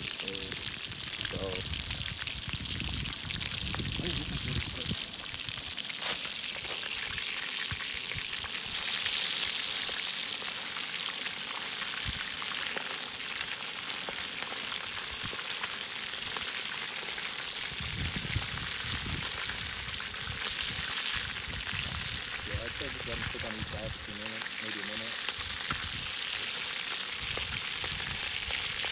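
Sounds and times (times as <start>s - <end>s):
fish sizzling in hot oil: 0.0s - 28.9s
oil crackling spatters: 0.0s - 28.9s.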